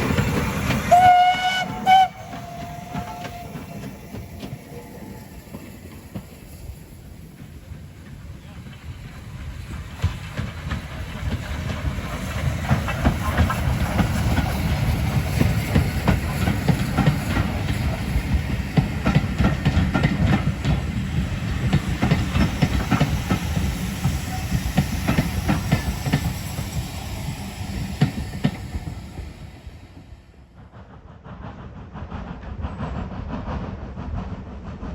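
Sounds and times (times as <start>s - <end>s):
train wheels clattering over rail joints: 0.0s - 34.9s.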